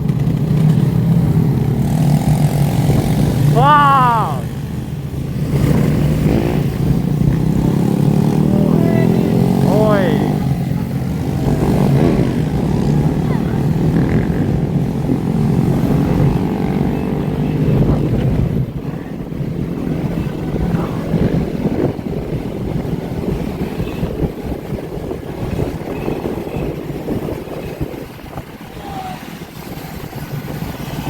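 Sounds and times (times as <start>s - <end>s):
motorbike engines revving and passing: 0.0s - 31.0s.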